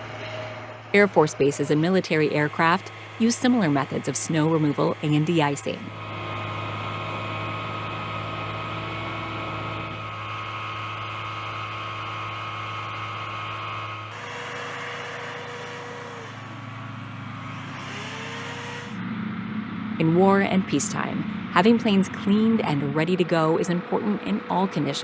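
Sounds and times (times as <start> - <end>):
engine with dipping pitch: 0.0 - 25.0
heavy machinery engine hum: 0.0 - 25.0.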